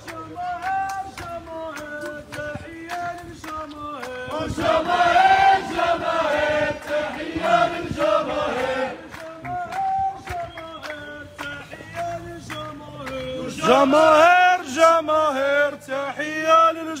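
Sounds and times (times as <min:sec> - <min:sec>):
rhythmic hand clapping: 0:00.0 - 0:16.4
crowd chanting a slogan: 0:00.0 - 0:17.0.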